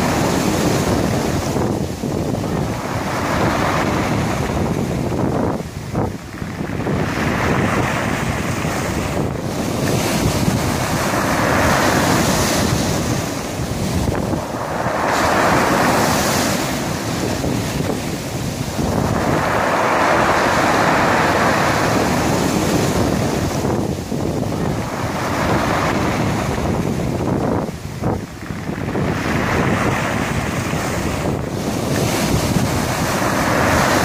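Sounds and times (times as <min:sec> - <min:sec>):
waves washing over pebbles: 0:00.0 - 0:34.0
wind buffeting microphone: 0:00.0 - 0:34.0.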